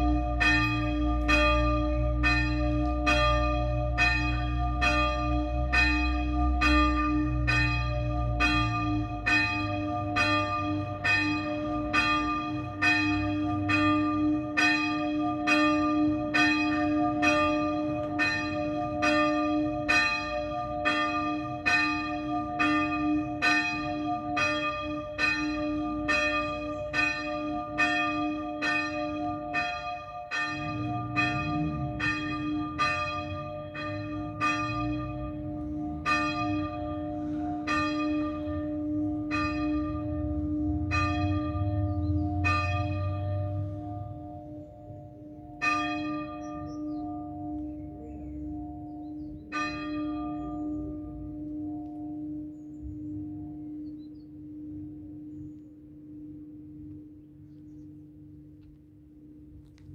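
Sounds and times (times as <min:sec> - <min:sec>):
small church bell ringing: 0:00.0 - 0:59.6.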